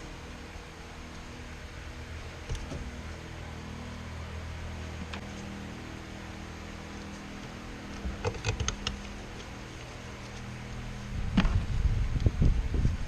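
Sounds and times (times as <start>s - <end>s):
low mechanical hum with tones: 0.0s - 13.0s.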